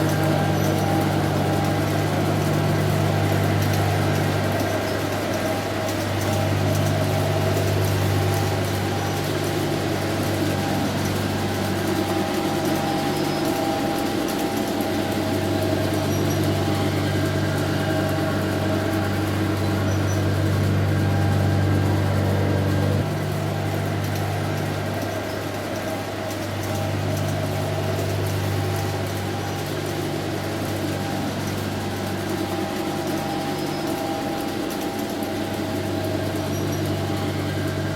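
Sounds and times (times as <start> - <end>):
model train mechanical drone: 0.0 - 37.9
rattle of train wheels: 0.0 - 37.9.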